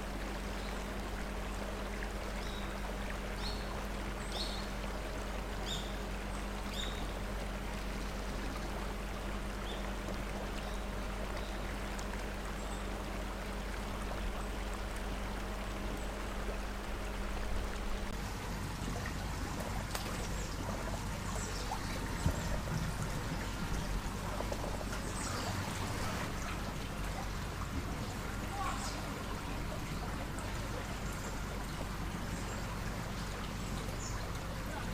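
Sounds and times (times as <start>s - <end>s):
shallow river water running: 0.0s - 34.9s.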